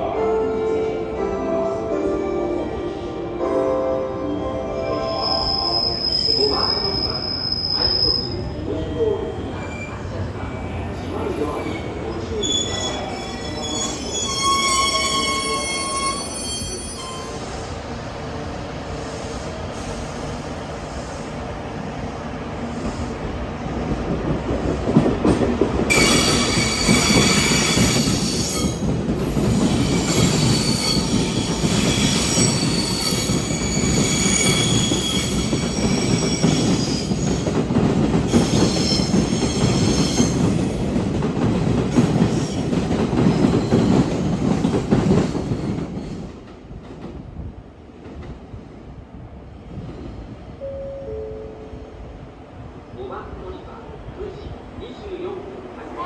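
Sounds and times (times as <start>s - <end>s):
train wheels rumbling and squealing: 4.2s - 52.5s.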